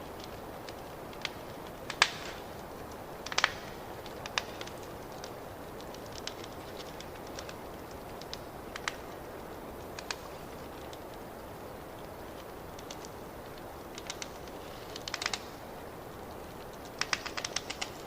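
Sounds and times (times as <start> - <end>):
fireplace fire crackling: 0.0 - 18.0.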